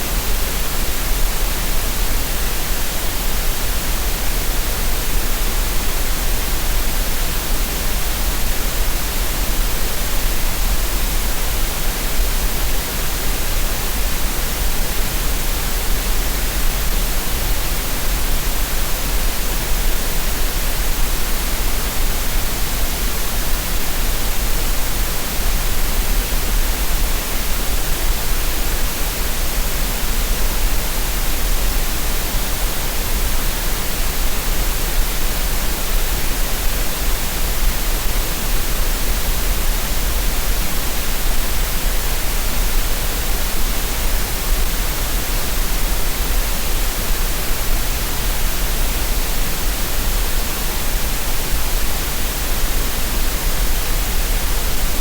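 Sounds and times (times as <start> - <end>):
steady green noise hiss: 0.0 - 55.0.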